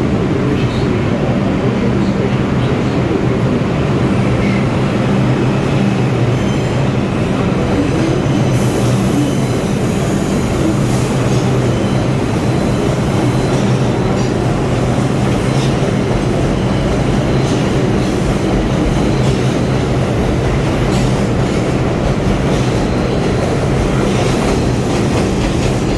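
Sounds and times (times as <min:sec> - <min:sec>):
subway train rumbling: 0:00.0 - 0:25.9.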